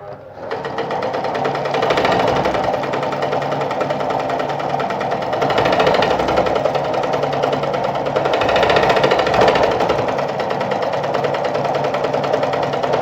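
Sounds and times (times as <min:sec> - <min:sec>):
sewing machine stitching: 0:00.0 - 0:13.0.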